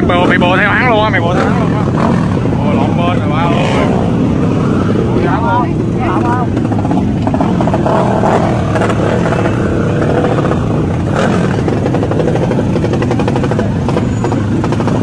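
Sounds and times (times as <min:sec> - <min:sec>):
motorcycle engines running loudly: 0:00.0 - 0:15.0.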